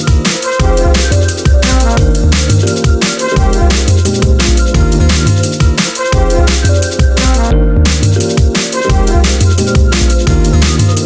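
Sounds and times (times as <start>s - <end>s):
drum and bass music: 0.0s - 11.0s.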